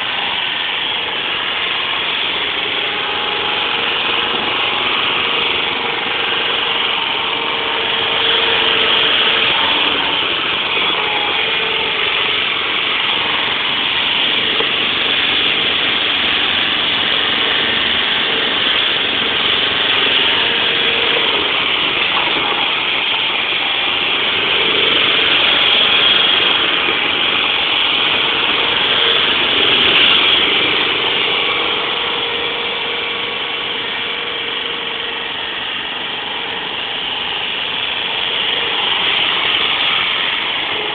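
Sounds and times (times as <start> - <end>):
forklift engine running: 0.0 - 40.9.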